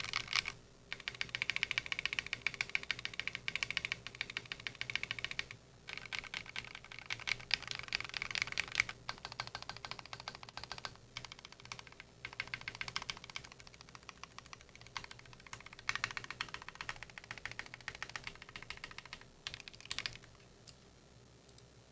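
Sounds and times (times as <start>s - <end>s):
fast mechanical keyboard typing: 0.0s - 20.3s.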